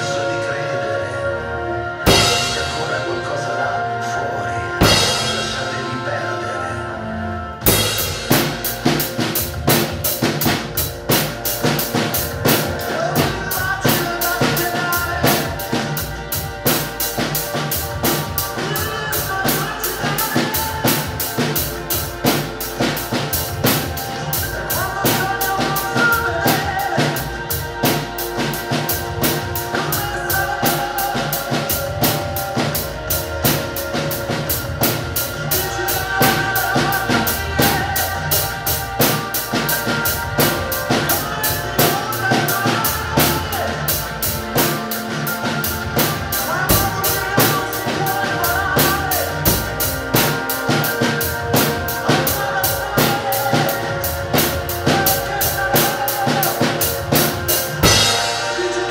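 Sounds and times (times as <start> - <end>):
recorded pop song: 0.0 - 58.9
drum kit playing a beat: 2.0 - 6.6, 7.6 - 58.9.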